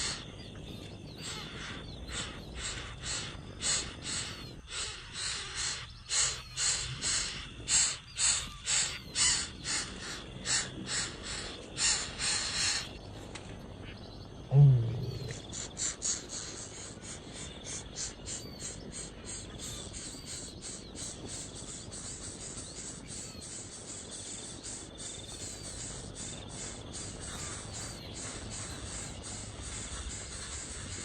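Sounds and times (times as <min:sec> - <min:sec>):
faint bird chirps: 0:00.0 - 0:31.0
insects chirping: 0:00.0 - 0:31.0.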